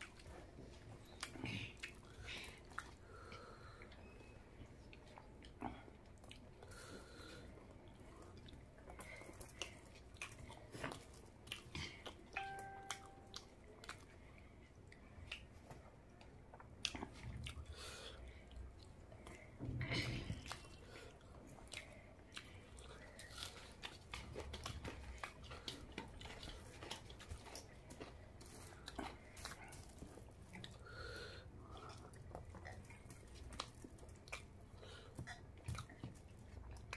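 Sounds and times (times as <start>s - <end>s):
person chewing: 0.0s - 4.0s, 4.8s - 14.1s, 16.5s - 36.9s.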